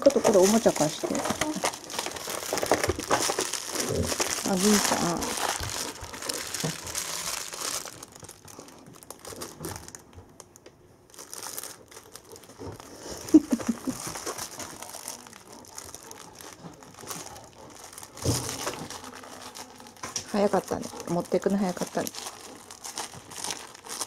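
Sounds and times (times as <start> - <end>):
packaging crinkling and rustling: 0.0 - 24.0.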